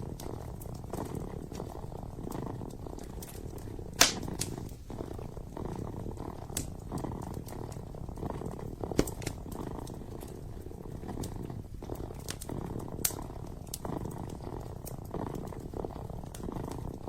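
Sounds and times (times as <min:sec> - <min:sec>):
fireplace crackling: 0:00.0 - 0:17.0
kitten purring: 0:00.0 - 0:17.0.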